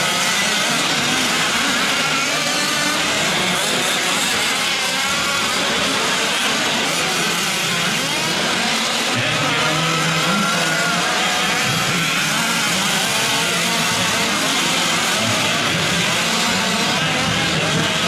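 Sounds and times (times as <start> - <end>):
small two-stroke engines racing: 0.0 - 18.0.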